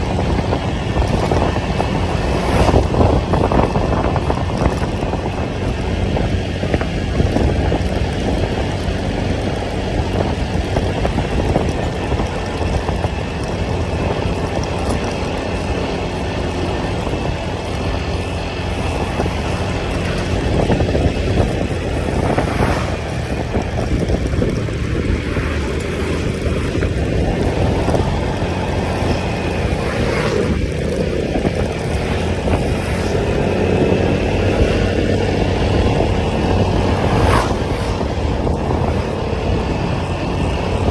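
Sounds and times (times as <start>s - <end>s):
motorcycle engine rumble: 0.0s - 40.9s
road noise: 0.0s - 40.9s.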